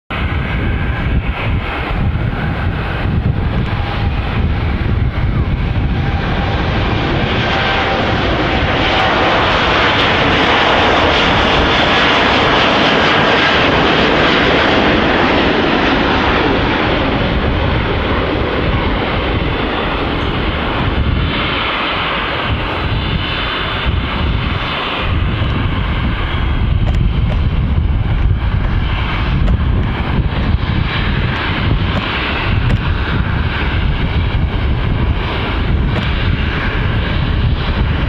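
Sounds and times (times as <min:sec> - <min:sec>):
jet airliner engines passing: 0:00.1 - 0:38.0
wind buffeting microphone: 0:00.1 - 0:38.0.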